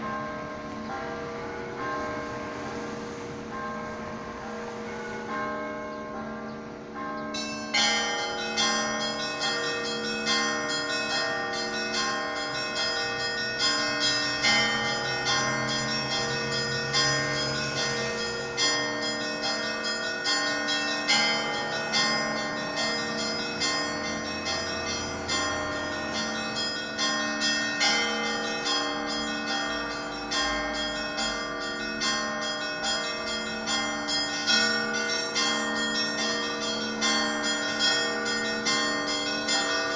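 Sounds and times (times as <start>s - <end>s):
low church bell: 0.0s - 39.9s
smaller bells pealing: 0.0s - 39.9s.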